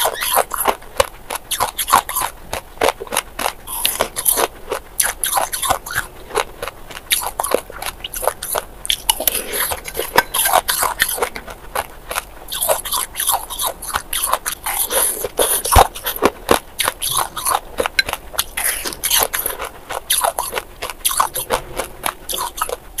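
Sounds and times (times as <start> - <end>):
crushed ice being chewed: 0.0 - 23.0.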